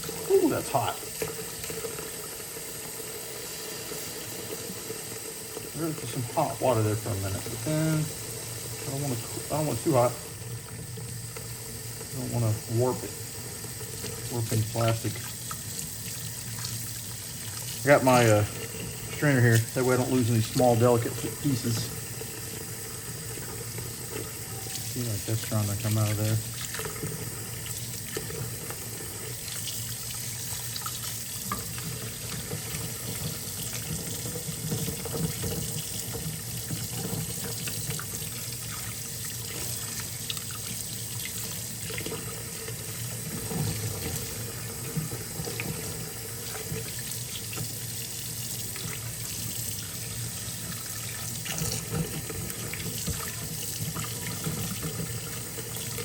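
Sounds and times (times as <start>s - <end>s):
faucet running into sink: 0.0s - 56.0s.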